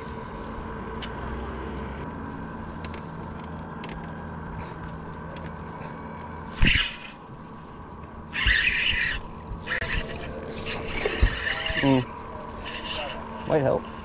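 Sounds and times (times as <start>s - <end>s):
electric motor humming and whining: 0.0s - 14.0s.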